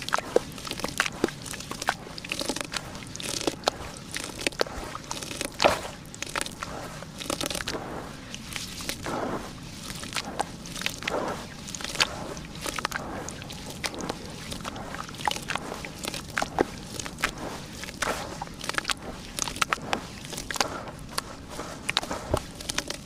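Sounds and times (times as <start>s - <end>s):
hands squelching wet slurry: 0.0s - 23.0s.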